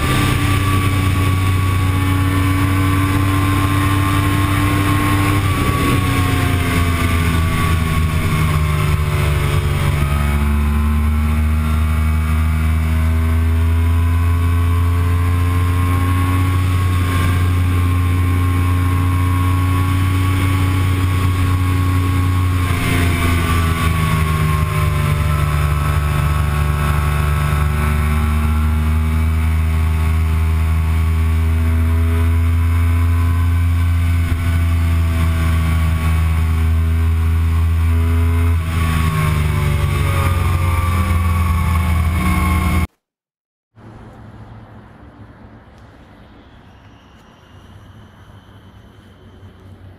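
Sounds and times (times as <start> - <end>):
low wind rumble: 0.0 - 42.9
motorcycle engine at high revs: 0.0 - 43.1.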